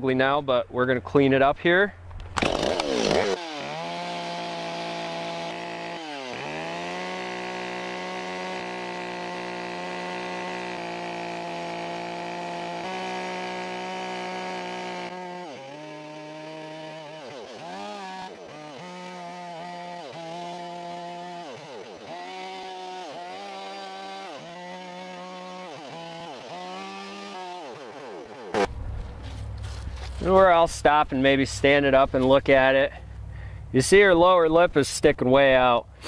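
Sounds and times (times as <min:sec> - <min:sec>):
chainsaw carving wood: 0:02.2 - 0:33.8.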